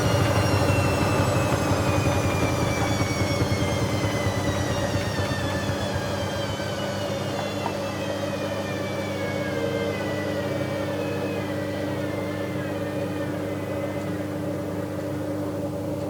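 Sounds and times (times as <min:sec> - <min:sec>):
steady low hum: 0:00.0 - 0:16.0
washing machine motor whine: 0:00.0 - 0:16.0.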